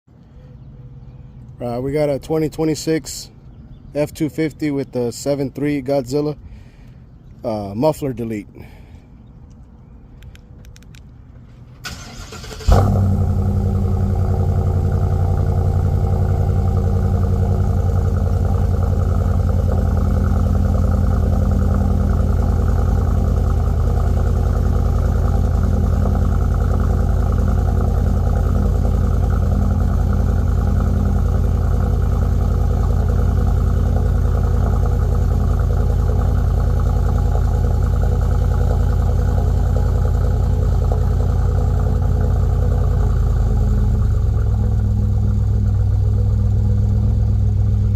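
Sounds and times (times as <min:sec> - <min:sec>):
engine idling with deep exhaust: 0:00.1 - 0:07.8, 0:08.5 - 0:10.6, 0:12.5 - 0:47.9.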